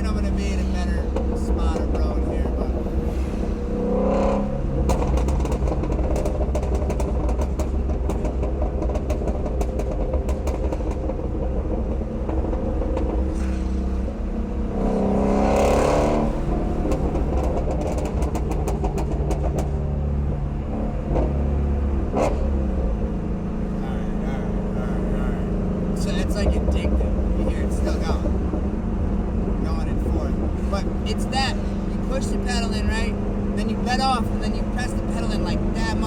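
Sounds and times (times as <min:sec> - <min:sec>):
car engine burbling: 0:00.0 - 0:36.0
exhaust pops and crackles: 0:00.0 - 0:36.0.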